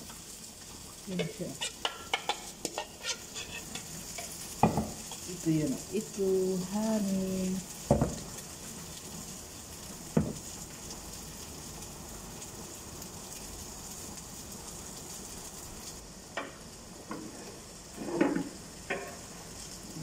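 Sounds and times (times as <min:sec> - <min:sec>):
chicken sizzling in grill pan: 0:00.0 - 0:20.0.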